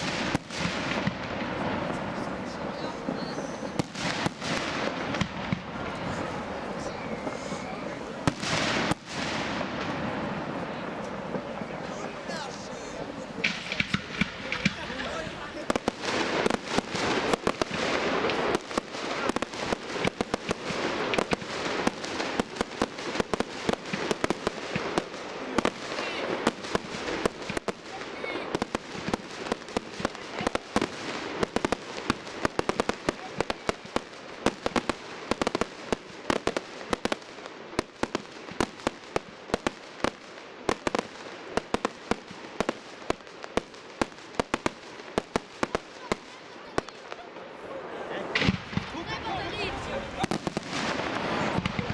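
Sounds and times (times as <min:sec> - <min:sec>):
fireworks bangs: 0:00.0 - 0:51.9
fireworks crackling hiss: 0:00.0 - 0:51.9.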